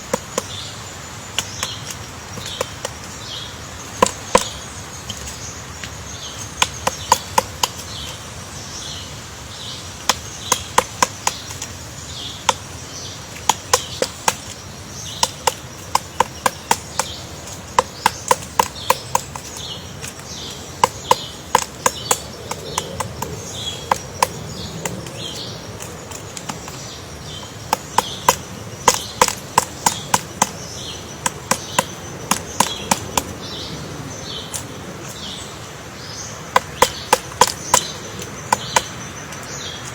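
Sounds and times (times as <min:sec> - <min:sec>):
woodpecker pecking wood: 0:00.0 - 0:39.9.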